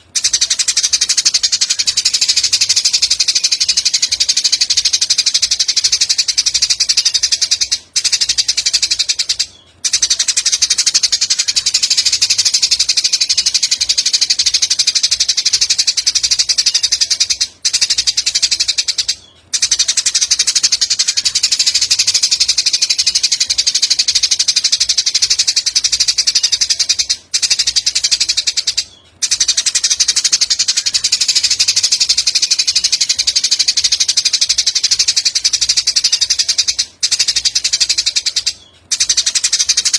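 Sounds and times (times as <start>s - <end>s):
high-pitched fast bird trill: 0.0s - 39.9s.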